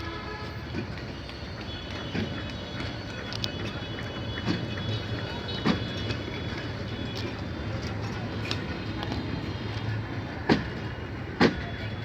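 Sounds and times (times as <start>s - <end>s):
train rumbling on rails: 0.0s - 12.0s
wheels clanking on rail joints: 0.0s - 12.0s.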